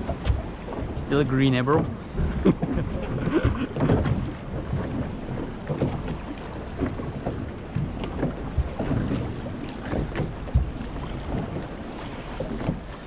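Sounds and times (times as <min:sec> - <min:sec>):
water slapping against boat: 0:00.0 - 0:13.0
wind buffeting microphone: 0:00.0 - 0:13.0.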